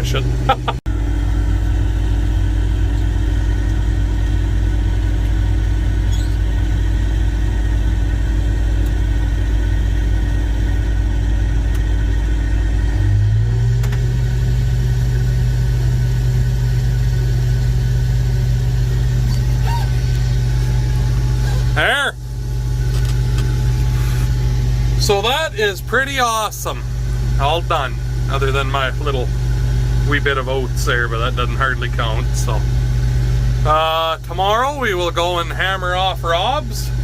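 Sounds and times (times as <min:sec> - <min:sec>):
combine harvester engine humming: 0:00.0 - 0:37.0.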